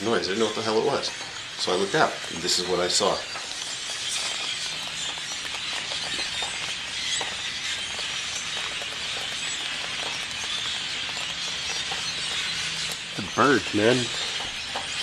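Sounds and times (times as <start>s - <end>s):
flock of birds screeching: 0.0s - 15.0s.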